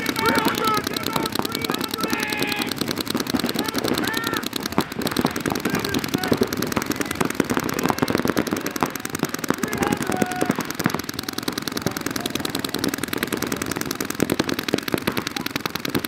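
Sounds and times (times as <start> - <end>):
paintball markers firing: 0.0 - 16.0.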